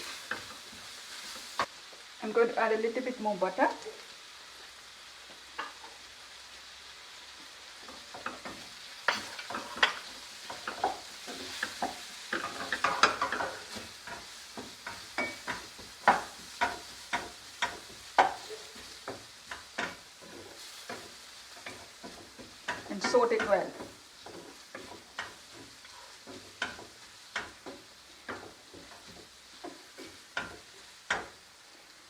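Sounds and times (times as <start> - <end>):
spatula scraping a pan: 0.0 - 1.7, 7.7 - 32.0
food sizzling in oil: 0.0 - 32.0.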